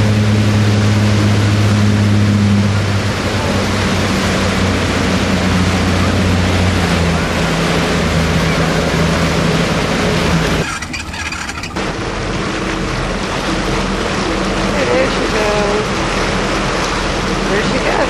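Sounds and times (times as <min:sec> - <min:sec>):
motorboat engine running: 0:00.0 - 0:18.0
water spray rushing: 0:00.0 - 0:18.0
wind: 0:00.0 - 0:18.0.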